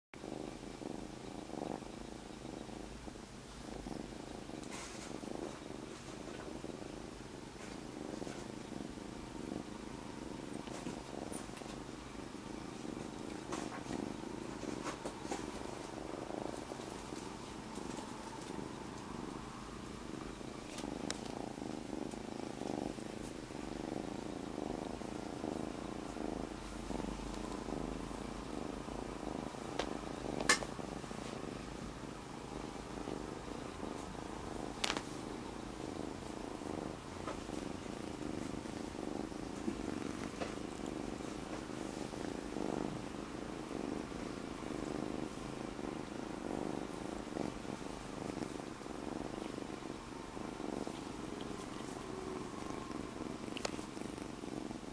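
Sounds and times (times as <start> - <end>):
kitten purring: 0.2 - 54.9.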